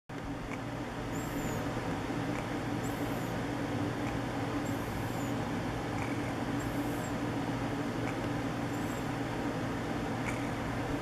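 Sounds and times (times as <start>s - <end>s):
steady background hum: 0.1s - 11.0s.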